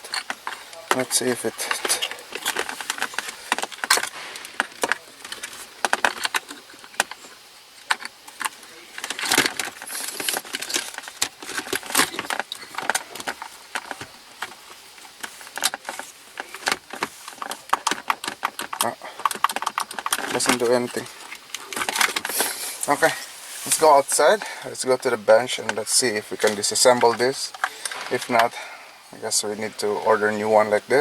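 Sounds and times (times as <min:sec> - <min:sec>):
sharp clicks and metallic rattles: 0:00.0 - 0:29.7.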